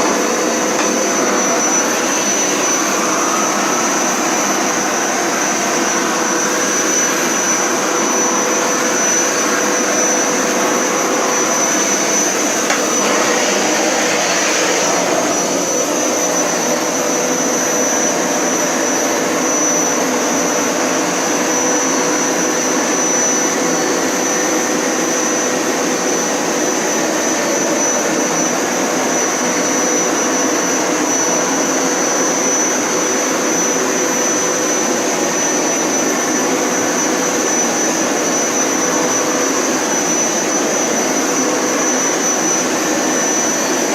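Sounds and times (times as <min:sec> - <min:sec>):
carpet cleaner motor whining: 0:00.0 - 0:43.9.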